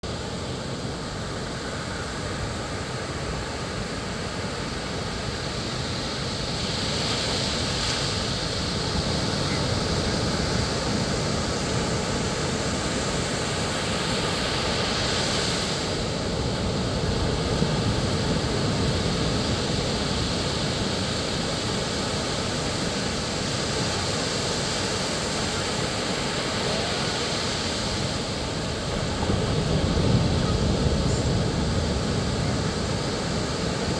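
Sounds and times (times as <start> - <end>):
ocean surf washing onto beach: 0.0 - 33.9.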